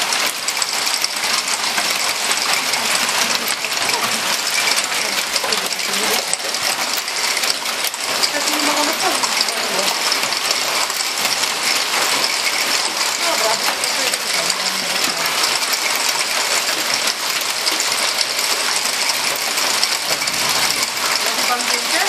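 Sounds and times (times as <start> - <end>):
hail pelting a corrugated roof: 0.0 - 22.0.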